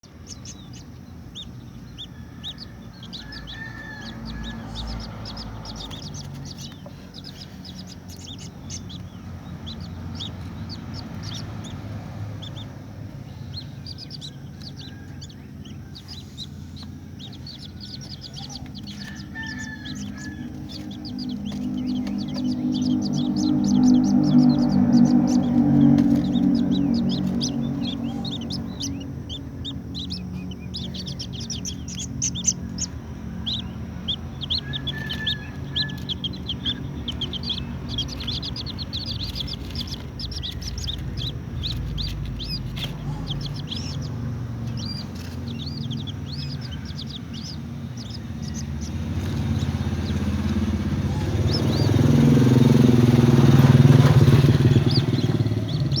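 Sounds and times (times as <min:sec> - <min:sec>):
low steady hum: 0:00.0 - 0:56.0
vehicle engine passing: 0:00.0 - 0:56.0
waterhen peeping: 0:00.0 - 0:56.0.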